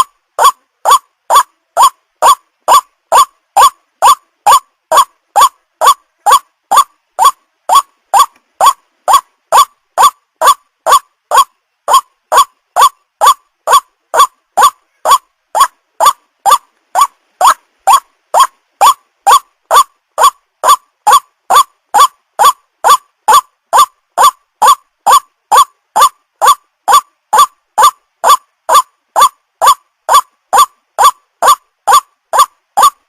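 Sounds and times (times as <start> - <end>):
waterhen calling: 0.0 - 33.0.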